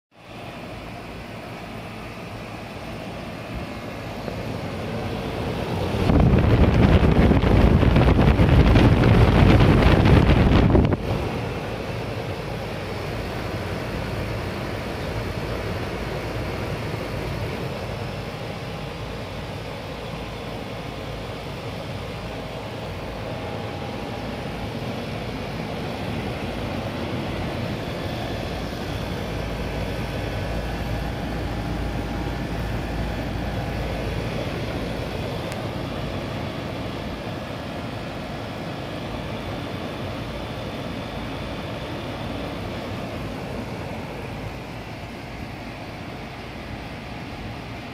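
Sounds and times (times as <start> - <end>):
condenser fan whoosh: 0.1 - 47.9
constant low hum: 0.1 - 47.9.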